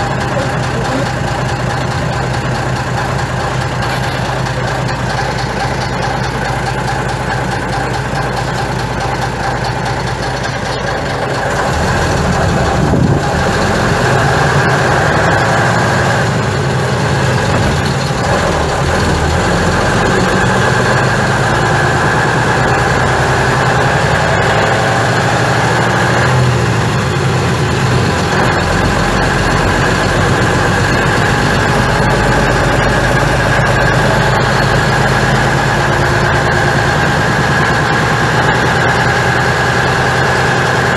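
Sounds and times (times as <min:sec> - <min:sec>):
bus diesel engine: 0:00.0 - 0:40.9.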